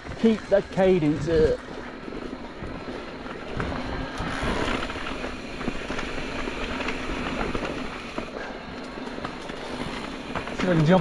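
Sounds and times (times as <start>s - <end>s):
bike clicks and rattles: 0.0s - 11.0s
tyre and wind noise: 0.0s - 11.0s.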